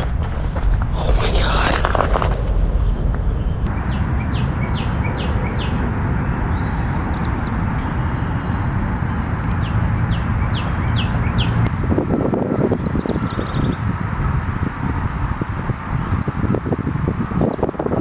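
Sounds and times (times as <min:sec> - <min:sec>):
steady low rumble: 0:00.0 - 0:17.6.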